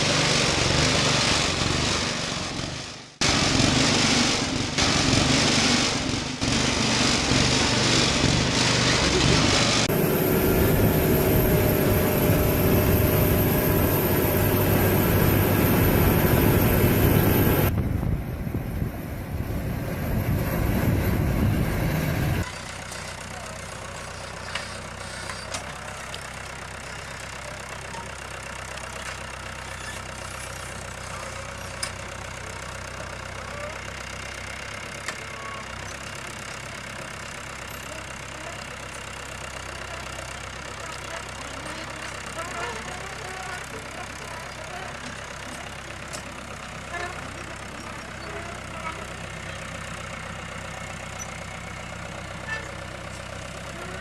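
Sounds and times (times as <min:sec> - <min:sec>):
machine engines running: 0:00.0 - 0:54.0.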